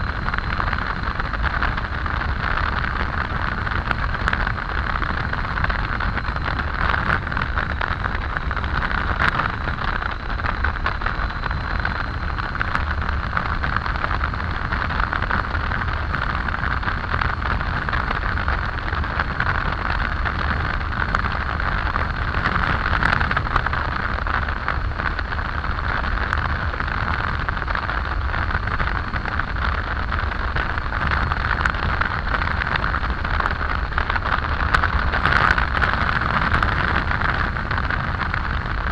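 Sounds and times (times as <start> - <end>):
road noise: 0.0 - 38.9
wind rush: 0.0 - 38.9.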